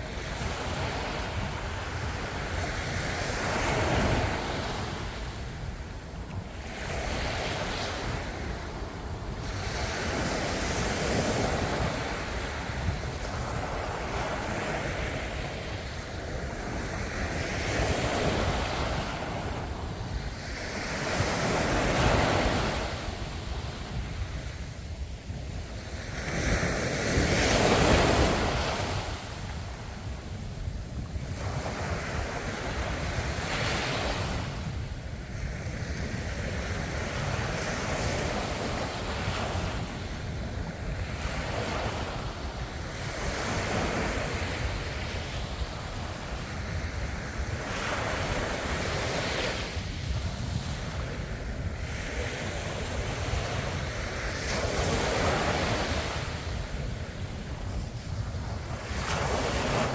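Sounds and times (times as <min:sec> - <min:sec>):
ocean waves breaking on shore: 0:00.0 - 0:59.9
wind noise on microphone: 0:00.0 - 0:59.9.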